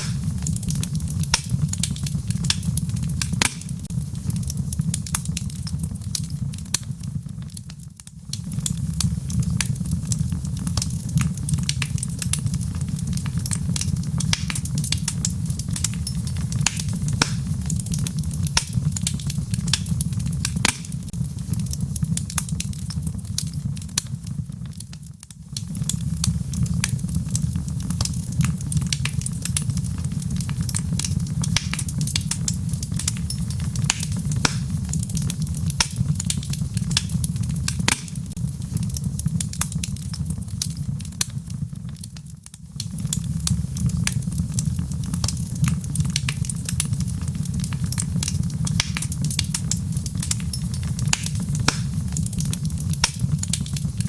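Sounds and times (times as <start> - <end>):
log fire crackling and popping: 0.0 - 54.0
low rumble of flame: 0.0 - 54.0.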